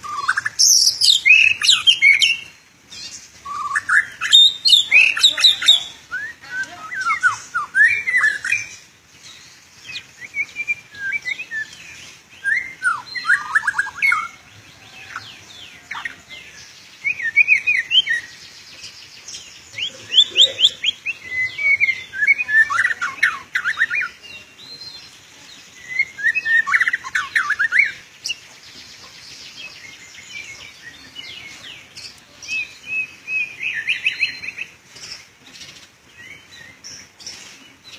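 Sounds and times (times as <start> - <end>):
bird singing whistles and trills: 0.0 - 14.4, 17.0 - 19.0, 19.6 - 28.4, 29.3 - 35.3.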